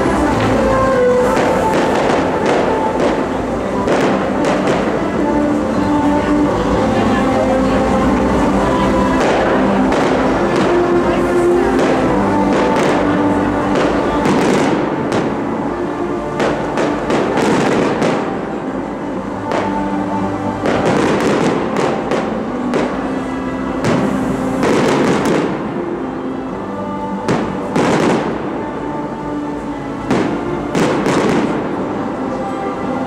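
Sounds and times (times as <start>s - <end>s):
firework crackles: 0.0s - 6.9s, 7.7s - 26.0s, 26.6s - 28.8s
loud music: 0.0s - 33.0s.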